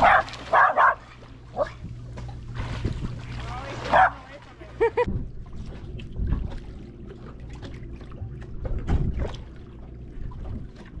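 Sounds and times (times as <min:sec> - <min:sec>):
low hum: 0:00.0 - 0:11.0
water splashing and lapping: 0:00.0 - 0:11.0.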